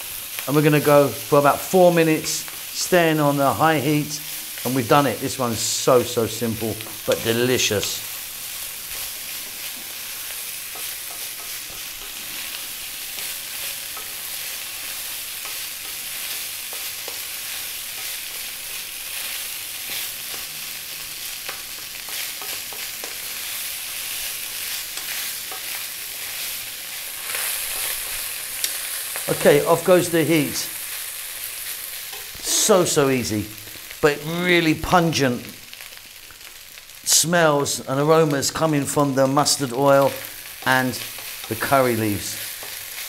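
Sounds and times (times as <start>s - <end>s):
rice sizzling in oil: 0.0s - 43.0s.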